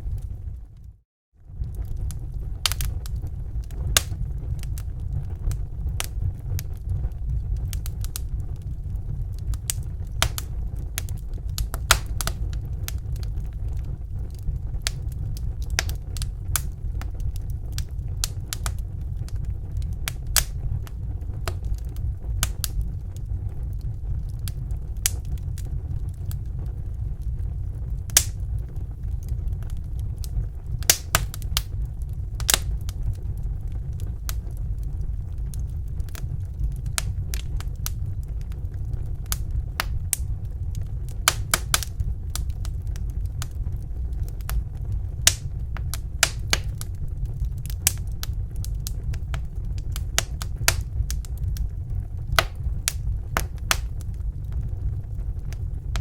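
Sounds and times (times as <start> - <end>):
fire crackling with pops: 0.0 - 56.0
low rumble of fire: 0.0 - 56.0.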